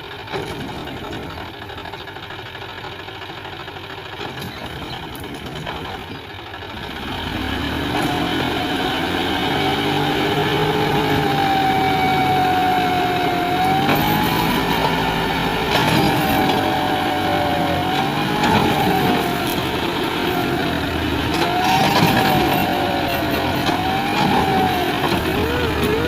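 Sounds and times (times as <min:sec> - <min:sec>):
tractor diesel engine running: 0:00.0 - 0:26.0
engine whine: 0:04.2 - 0:26.0.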